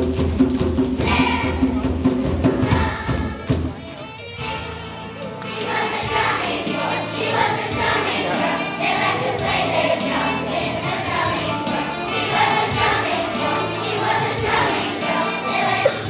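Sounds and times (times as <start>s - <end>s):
children's choir singing: 0.9s - 3.7s, 5.5s - 16.0s.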